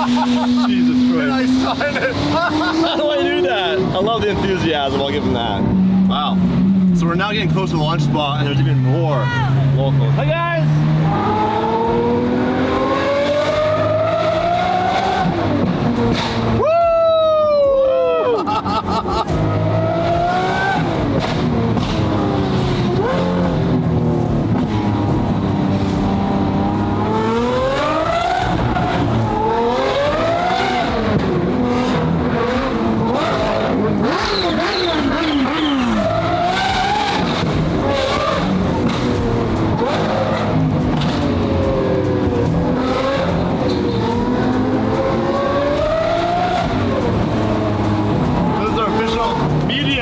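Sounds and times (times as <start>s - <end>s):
car engines revving hard: 0.0s - 50.0s.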